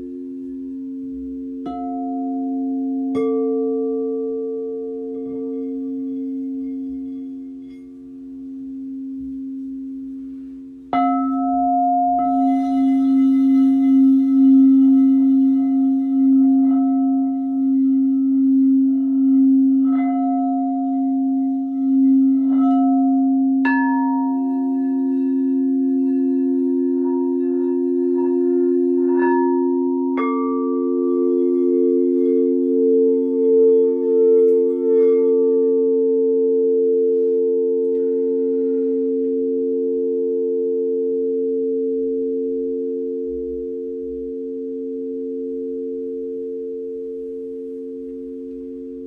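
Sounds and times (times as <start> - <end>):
singing bowls struck: 0.0 - 49.0
steady low bowl tone: 0.0 - 49.0.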